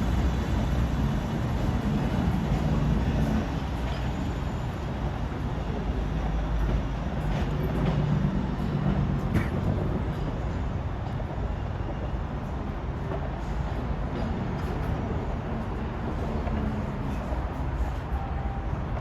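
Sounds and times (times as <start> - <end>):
train rumbling through station: 0.0 - 19.0.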